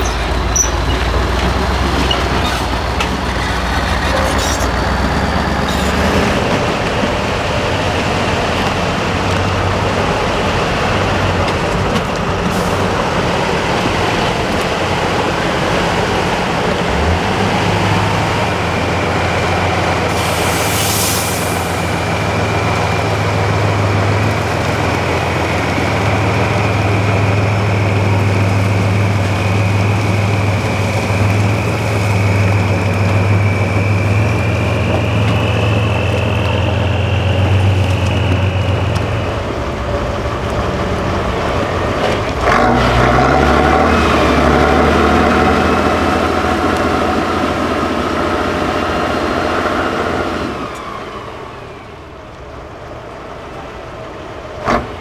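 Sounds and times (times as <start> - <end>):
diesel truck engine labouring: 0.0 - 55.0.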